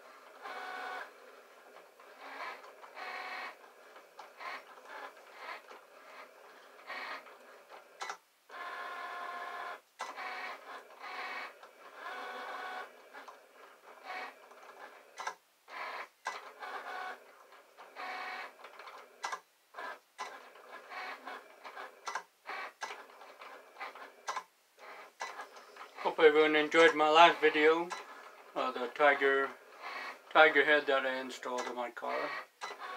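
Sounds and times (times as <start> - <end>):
cutting machine motors whirring: 0.1 - 32.9.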